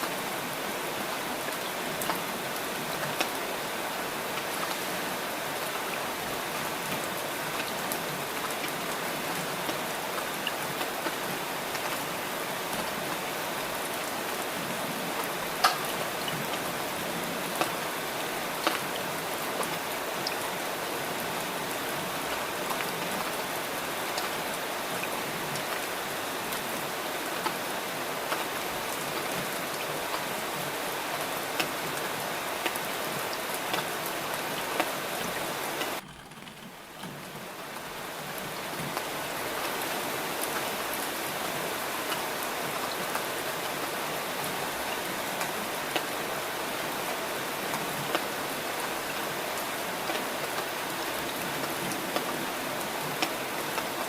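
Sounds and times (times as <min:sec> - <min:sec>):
raindrops ticking on a surface: 0:00.0 - 0:43.3
steady rain falling: 0:00.0 - 0:54.0.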